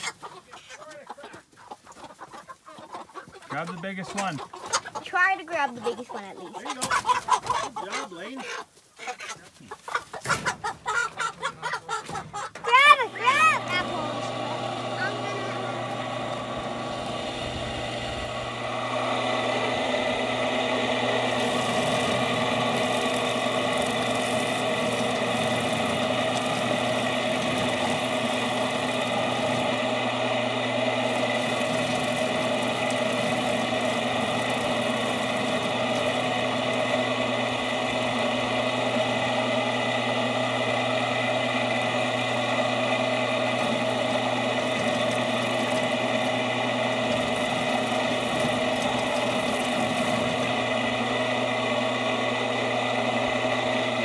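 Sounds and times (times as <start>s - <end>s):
chicken plucker machine humming: 0.0s - 54.0s.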